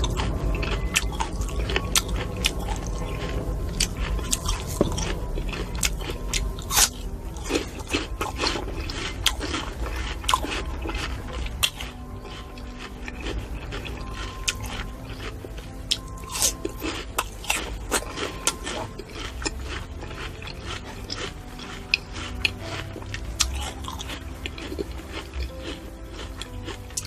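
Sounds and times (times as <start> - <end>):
biting and chewing fruit: 0.0 - 27.0.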